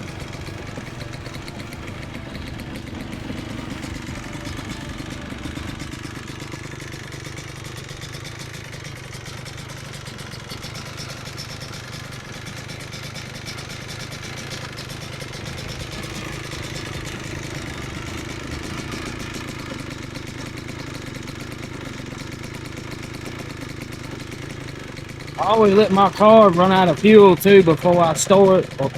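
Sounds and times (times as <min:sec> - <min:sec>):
two-stroke engine idling: 0:00.0 - 0:28.9.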